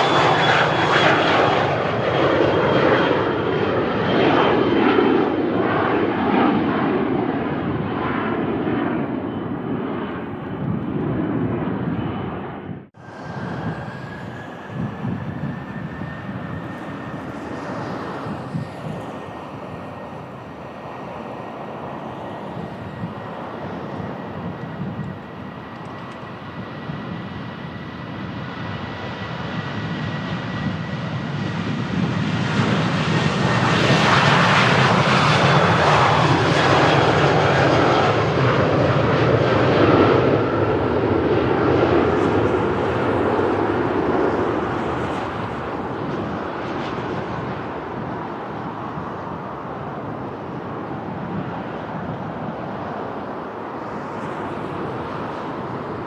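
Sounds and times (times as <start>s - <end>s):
jet engines roaring: 0.0s - 56.0s
wind rumble on microphone: 9.4s - 56.0s.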